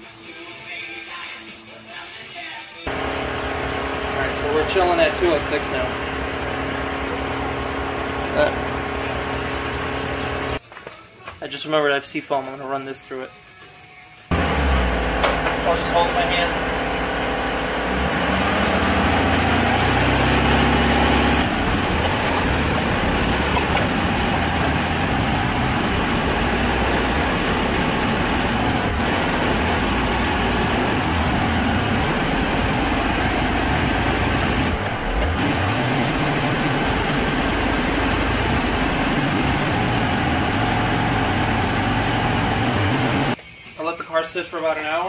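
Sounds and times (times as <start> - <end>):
car engine idling: 2.9 - 10.6, 14.3 - 43.4.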